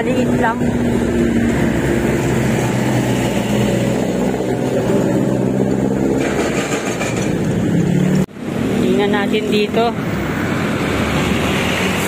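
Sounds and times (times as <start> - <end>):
car engines passing: 0.0 - 12.0.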